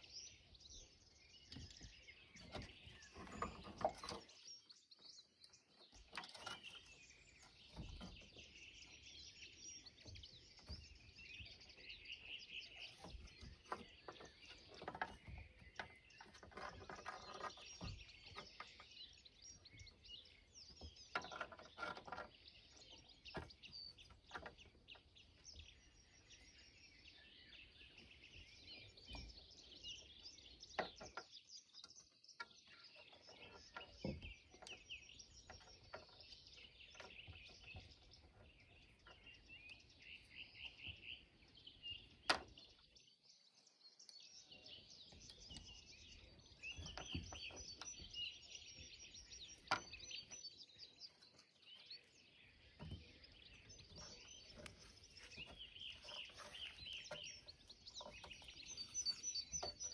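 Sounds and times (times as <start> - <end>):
faint birds chirping: 0.0 - 59.9.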